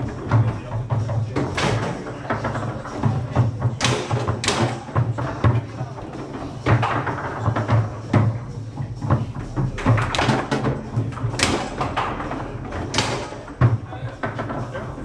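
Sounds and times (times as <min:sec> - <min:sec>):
foosball ball knocks and clacks: 0:00.0 - 0:15.0.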